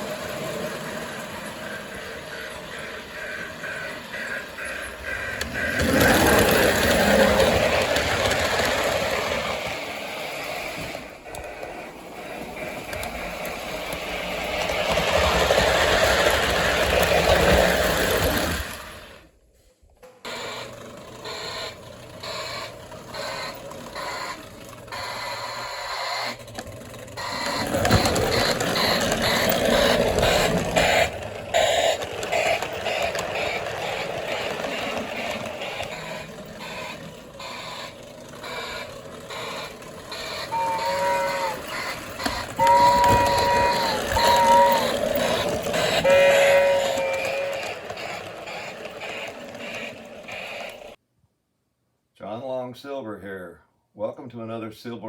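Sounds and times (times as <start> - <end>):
regular train clicks: 0.0 - 19.3, 19.9 - 51.0
toy train rattling: 0.0 - 19.3, 20.2 - 51.0.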